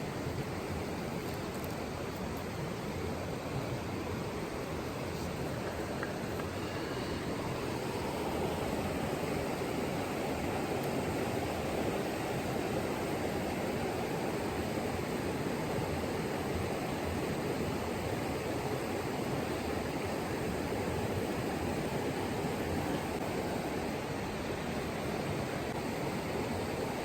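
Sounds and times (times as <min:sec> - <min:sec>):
river water rushing: 0:01.8 - 0:27.0.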